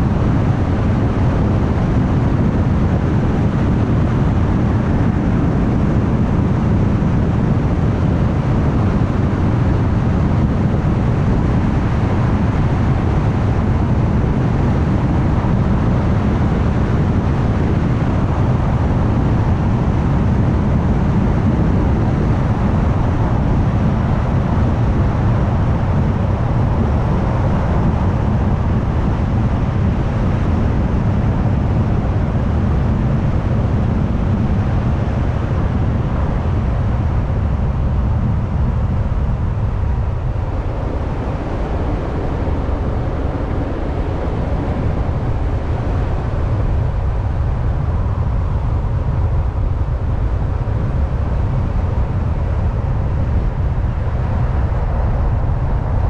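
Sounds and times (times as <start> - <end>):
car road and engine noise: 0.0 - 56.0.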